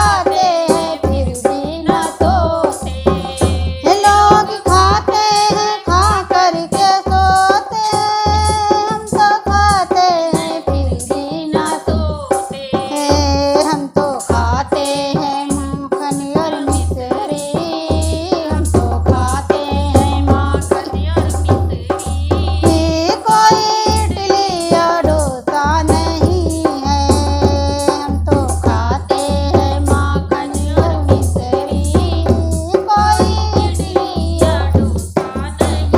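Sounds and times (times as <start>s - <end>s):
devotional song singing: 0.0s - 35.9s
hand drum beat: 0.0s - 35.9s.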